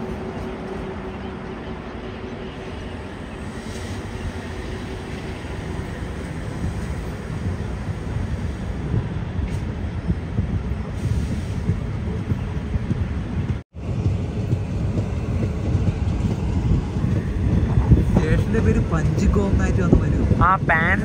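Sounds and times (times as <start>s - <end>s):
train hum: 0.0s - 21.0s
train wheels rumbling: 0.0s - 21.0s.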